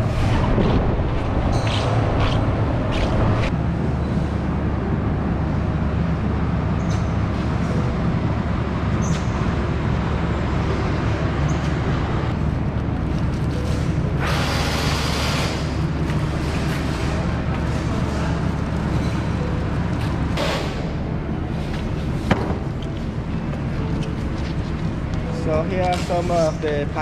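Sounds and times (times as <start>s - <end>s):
factory floor rumble: 0.0s - 27.0s.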